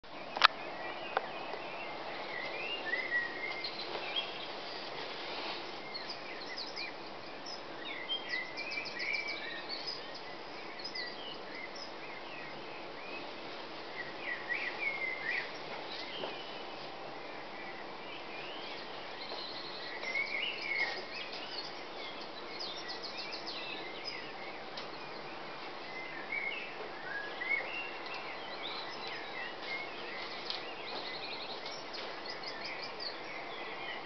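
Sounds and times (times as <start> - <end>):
birds singing and chirping: 0.1 - 34.0
steady hiss: 0.1 - 34.0.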